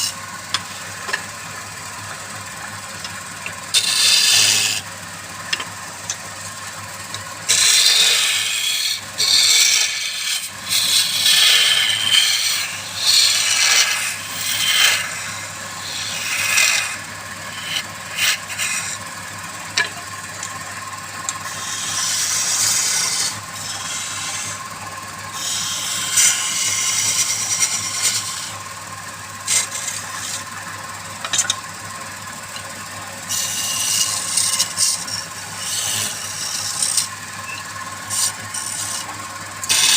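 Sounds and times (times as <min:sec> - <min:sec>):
lathe motor hum: 0:00.0 - 0:39.9
tool scraping spinning wood: 0:00.0 - 0:39.9.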